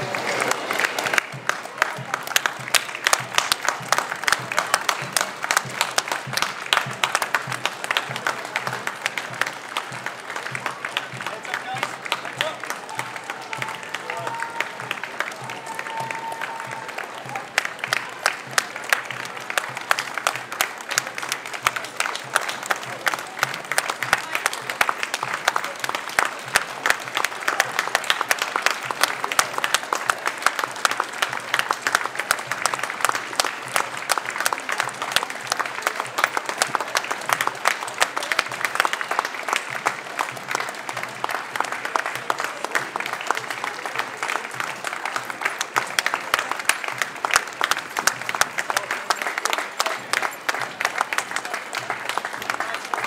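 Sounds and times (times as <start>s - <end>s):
crowd applauding: 0.0s - 53.0s.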